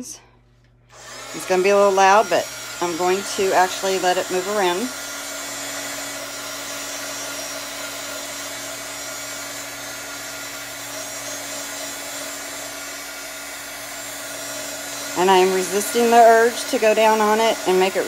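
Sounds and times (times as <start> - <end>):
heat gun blowing air: 0.9 - 18.0.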